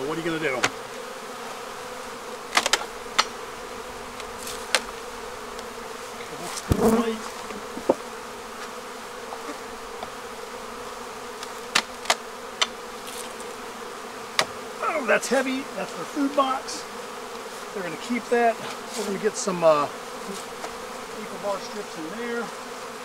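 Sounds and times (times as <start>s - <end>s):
bees buzzing: 0.0s - 23.0s
wooden hive boxes knocking: 0.2s - 22.7s.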